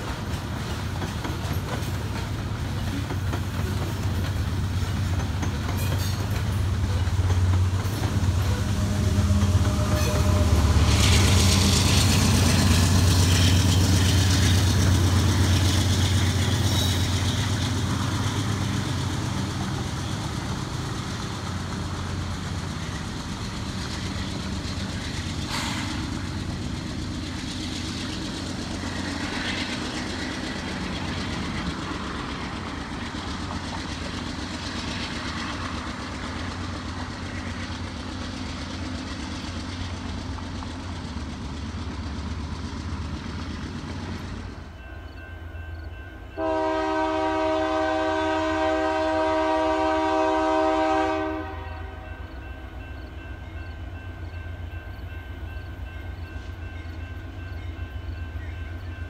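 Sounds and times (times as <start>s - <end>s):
diesel locomotive engine humming: 0.0s - 59.0s.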